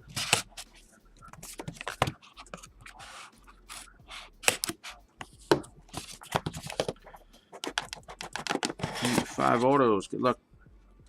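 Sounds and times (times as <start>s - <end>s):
cards and packaging handled: 0.0s - 9.8s.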